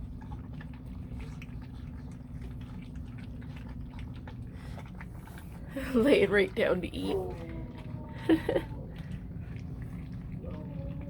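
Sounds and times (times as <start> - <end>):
puppies lapping food: 0.0 - 11.0
steady low hum: 0.0 - 11.0.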